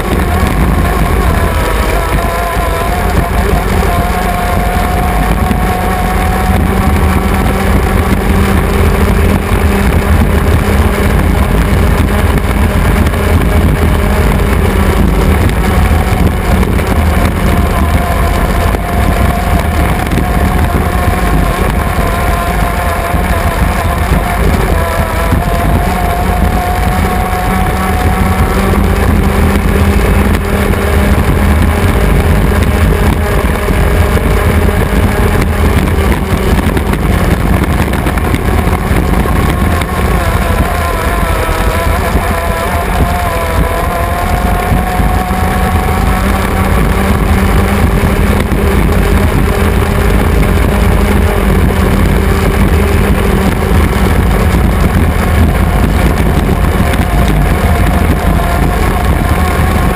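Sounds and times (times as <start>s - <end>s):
racing boat engine roaring: 0.0s - 59.9s.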